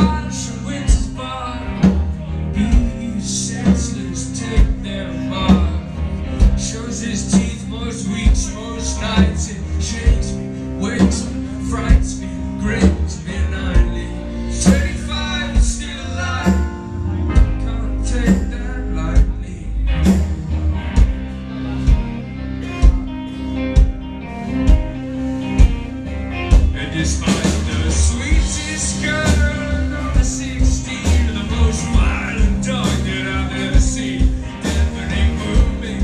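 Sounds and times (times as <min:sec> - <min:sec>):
man singing into a microphone: 0:00.0 - 0:20.1, 0:26.7 - 0:36.0
bass and guitar: 0:00.0 - 0:36.0
drums keeping a steady beat: 0:00.0 - 0:36.0.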